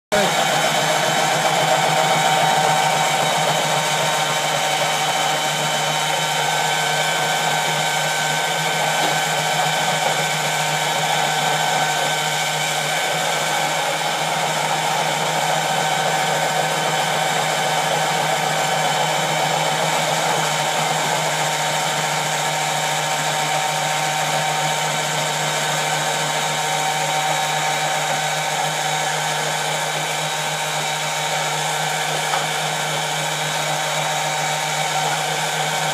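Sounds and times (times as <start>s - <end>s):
milling machine whine and hum: 0.1s - 35.9s.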